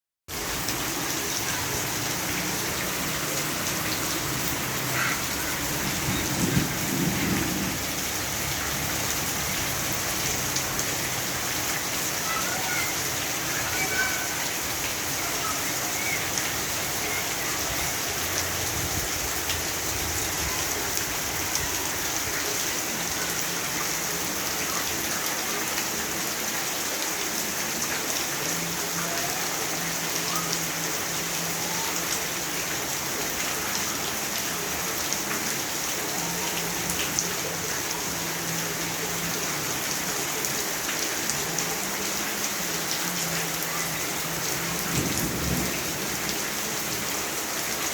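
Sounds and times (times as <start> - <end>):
steady rain: 0.3 - 47.9.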